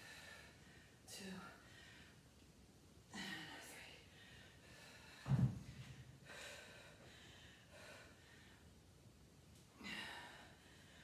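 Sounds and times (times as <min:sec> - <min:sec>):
woman breathing hard: 0:00.0 - 0:02.3, 0:03.1 - 0:08.8, 0:09.7 - 0:11.0.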